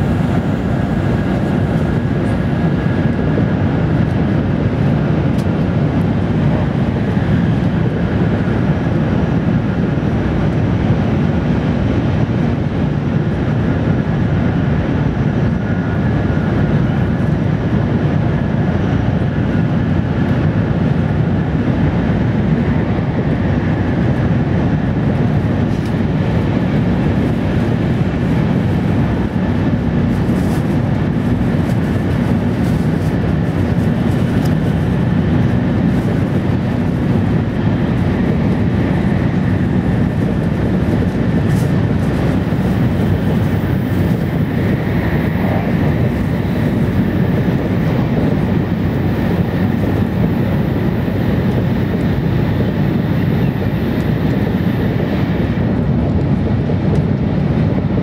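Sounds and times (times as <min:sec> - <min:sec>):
train running rumble inside car: 0:00.0 - 0:58.0.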